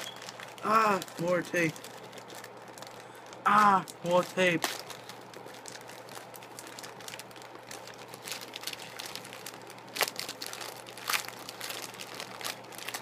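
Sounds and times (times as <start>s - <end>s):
packing tape crinkling: 0.0s - 13.0s.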